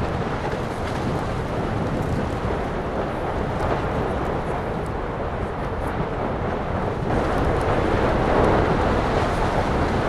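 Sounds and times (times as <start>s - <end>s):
lava fountains rushing rumble: 0.0s - 10.0s.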